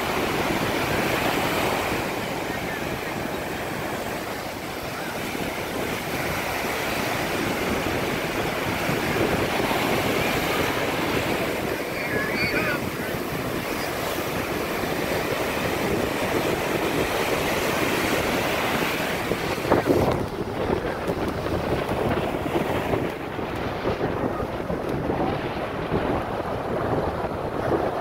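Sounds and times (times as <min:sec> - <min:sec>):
ocean surf breaking on beach: 0:00.0 - 0:28.0
wind buffeting microphone: 0:00.0 - 0:28.0.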